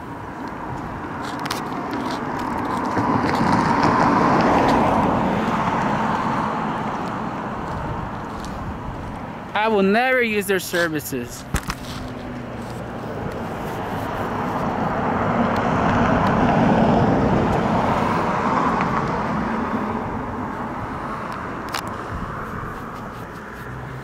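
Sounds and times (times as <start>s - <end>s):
vehicle passing by: 0.6s - 9.5s, 11.2s - 24.0s.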